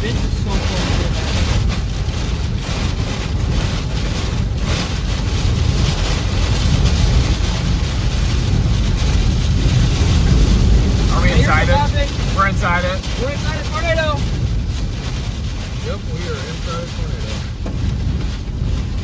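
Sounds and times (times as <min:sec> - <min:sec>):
strong wind rushing: 0:00.0 - 0:19.0.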